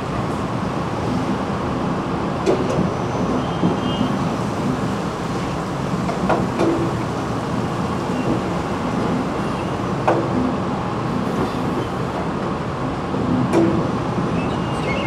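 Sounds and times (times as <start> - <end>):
water churning in tanks: 0.0 - 14.3.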